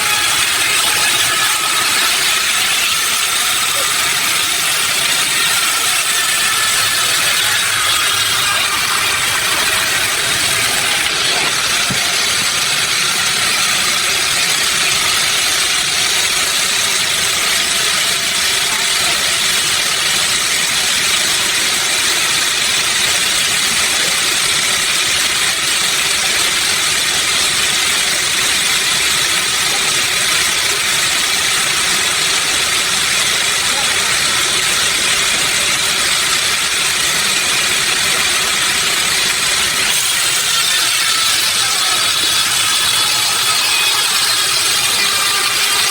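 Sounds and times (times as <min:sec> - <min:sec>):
sawmill machinery hiss and whine: 0:00.0 - 0:45.9.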